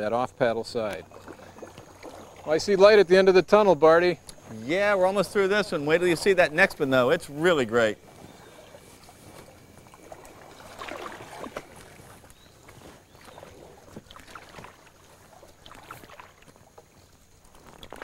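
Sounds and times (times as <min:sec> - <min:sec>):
canoe paddle strokes in water: 0:00.0 - 0:18.0
water drips and small splashes: 0:00.0 - 0:18.0.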